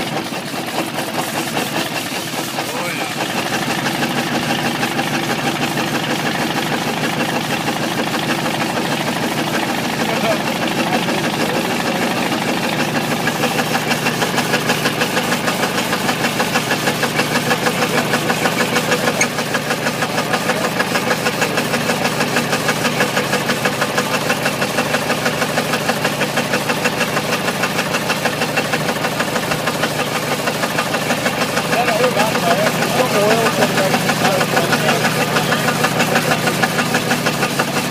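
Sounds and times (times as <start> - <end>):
engine running with rapid knock: 0.0 - 37.9.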